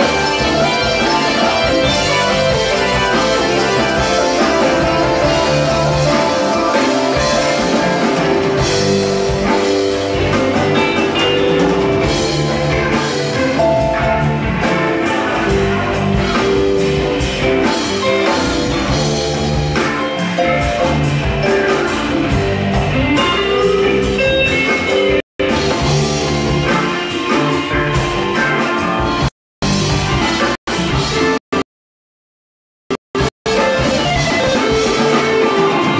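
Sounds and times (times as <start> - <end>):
live rock band playing: 0.0 - 31.6, 33.2 - 35.9.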